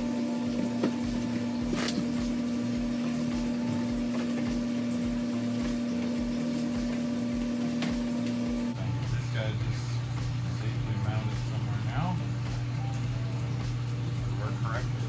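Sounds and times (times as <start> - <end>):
pump motor humming: 0.0 - 15.0.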